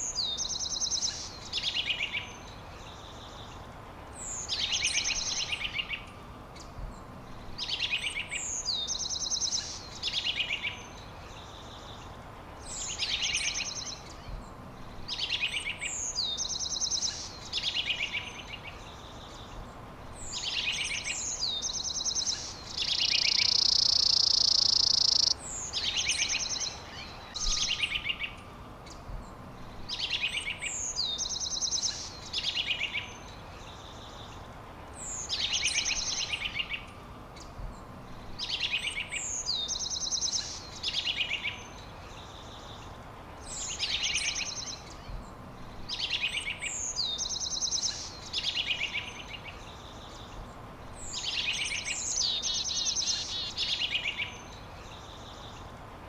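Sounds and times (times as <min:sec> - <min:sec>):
songbird singing whistles and trills: 0:00.0 - 0:03.4, 0:04.2 - 0:06.1, 0:07.5 - 0:11.9, 0:12.6 - 0:14.5, 0:15.1 - 0:19.1, 0:20.2 - 0:34.3, 0:35.0 - 0:42.8, 0:43.4 - 0:55.7.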